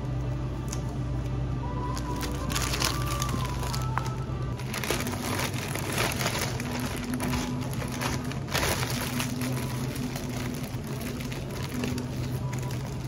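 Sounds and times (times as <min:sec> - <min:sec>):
steady low hum: 0:00.0 - 0:13.0
plastic bag rustling and crinkling: 0:01.9 - 0:13.0.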